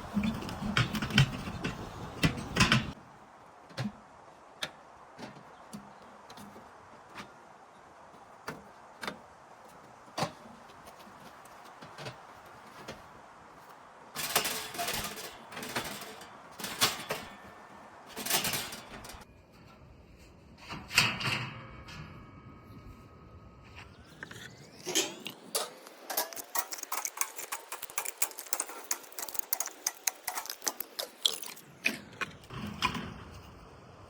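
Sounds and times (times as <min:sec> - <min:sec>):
parts scraping and rattling: 0:00.0 - 0:03.0, 0:03.7 - 0:33.7.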